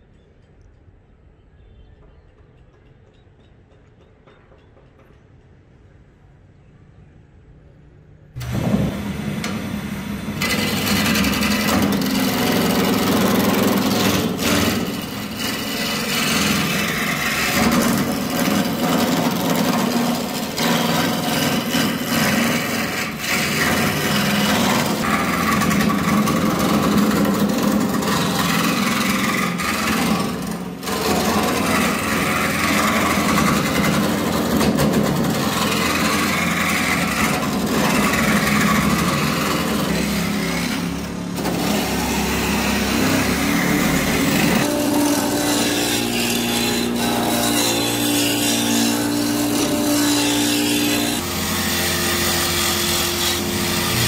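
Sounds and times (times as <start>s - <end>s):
lathe motor hum: 8.4s - 54.0s
chisel scraping on wood: 10.4s - 54.0s.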